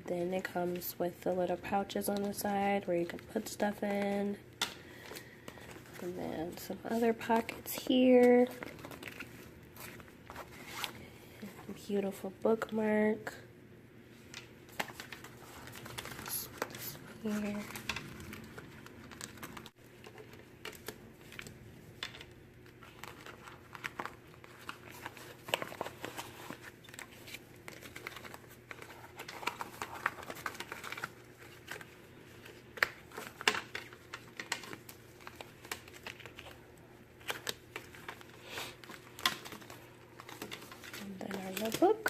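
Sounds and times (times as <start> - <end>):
paper packaging crinkling: 1.9 - 11.0, 14.7 - 42.0.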